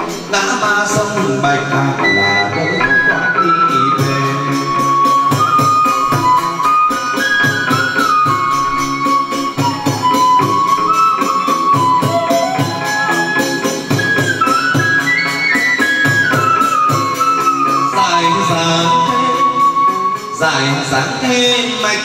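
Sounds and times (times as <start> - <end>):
quick percussion beat: 0.0 - 22.0
high gliding instrumental melody: 1.7 - 20.2.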